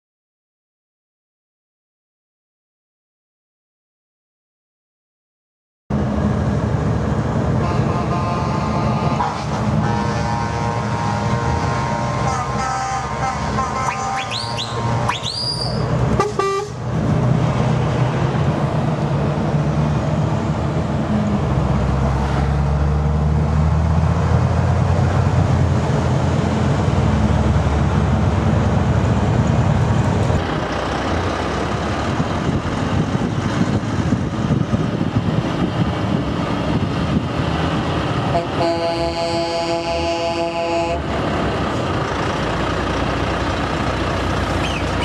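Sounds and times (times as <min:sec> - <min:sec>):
traffic noise: 0:05.9 - 0:45.0
truck engine running: 0:05.9 - 0:45.0
tyre and road noise: 0:05.9 - 0:45.0.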